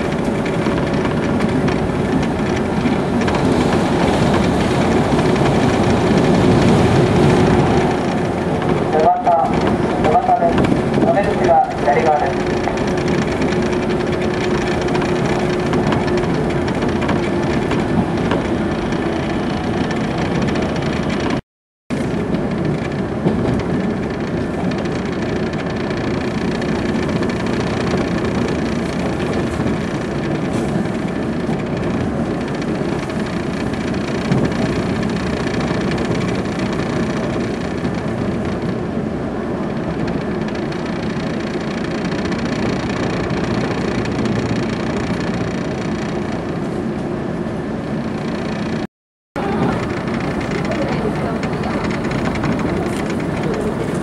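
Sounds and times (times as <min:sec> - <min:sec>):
train wheels and motors rumbling: 0:00.0 - 0:54.0.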